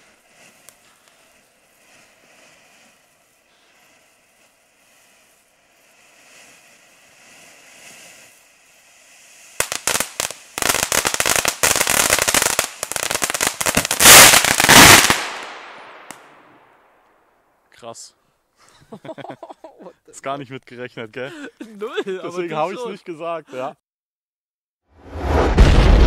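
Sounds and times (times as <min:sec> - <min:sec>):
firework fountain crackling: 0:00.0 - 0:17.6, 0:18.9 - 0:23.2.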